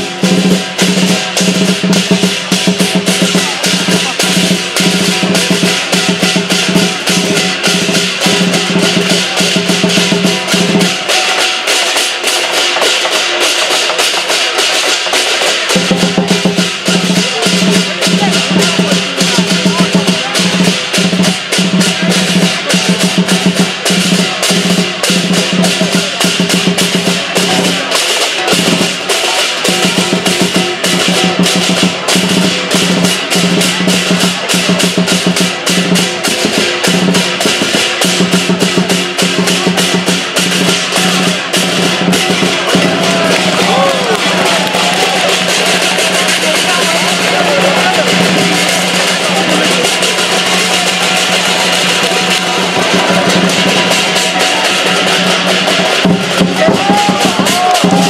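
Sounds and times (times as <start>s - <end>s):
big drum beat: 0.0s - 58.0s
crashing cymbals: 0.0s - 58.0s.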